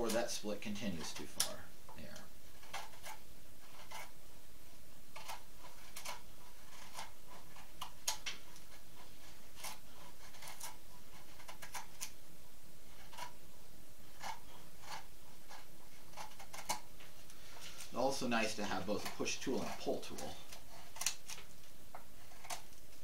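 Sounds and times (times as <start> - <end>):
carving tool scraping wood: 0.0 - 23.0.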